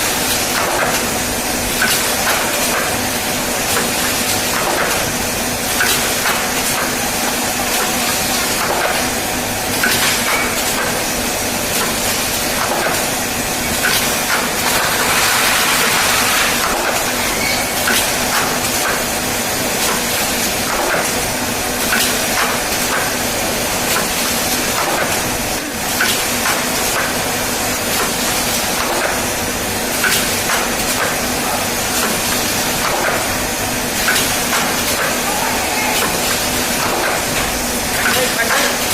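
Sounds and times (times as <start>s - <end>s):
machine clicks and knocks: 0.4s - 1.1s, 1.7s - 3.0s, 3.6s - 7.0s, 7.6s - 11.1s, 11.7s - 19.1s, 19.7s - 25.4s, 26.0s - 27.3s, 27.9s - 29.3s, 29.9s - 35.3s, 36.0s - 38.9s.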